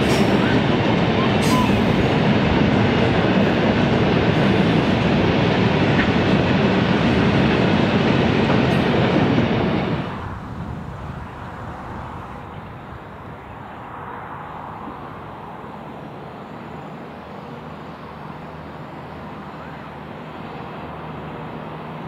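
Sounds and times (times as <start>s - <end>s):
diesel railcar engine drone: 0.0s - 22.0s.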